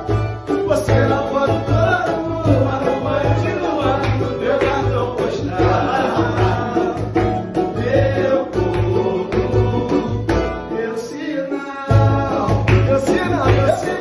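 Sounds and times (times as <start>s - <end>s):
acoustic guitar: 0.0s - 14.0s
banjo: 0.0s - 14.0s
men singing together: 0.0s - 14.0s.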